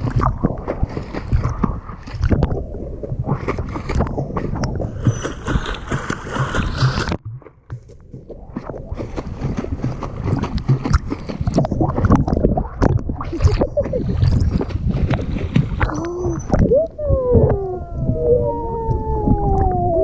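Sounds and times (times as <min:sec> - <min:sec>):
underwater bubbles gurgling: 0:00.0 - 0:20.0
water splashing and churning: 0:00.0 - 0:20.0.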